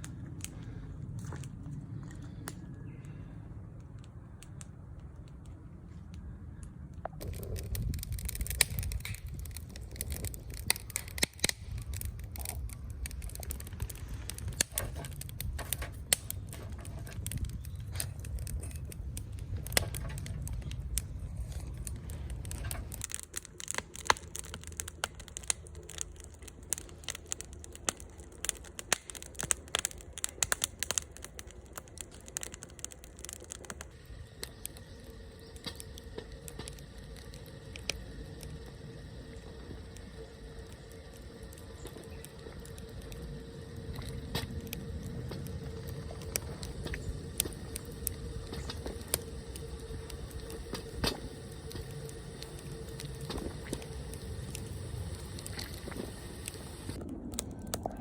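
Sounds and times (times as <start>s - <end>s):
low steady rumble: 0.0s - 58.0s
twig fire crackling and popping: 0.0s - 58.0s.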